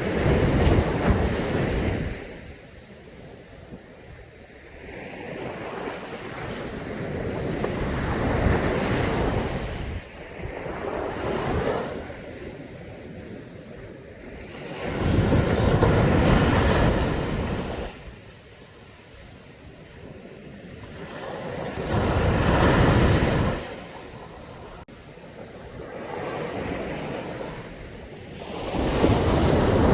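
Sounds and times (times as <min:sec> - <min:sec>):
sea waves breaking on beach: 0:00.0 - 0:03.4, 0:04.5 - 0:29.9.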